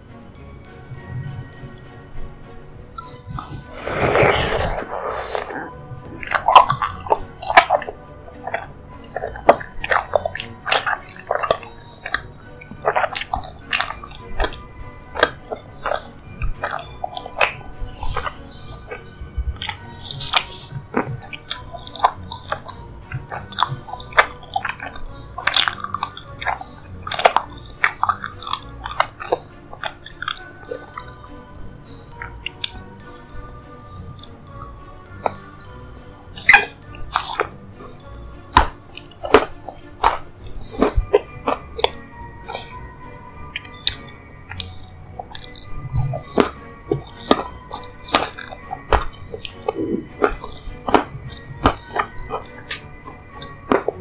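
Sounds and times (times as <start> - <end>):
background music: 0.0 - 54.0
chewing and mouth sounds: 3.0 - 54.0.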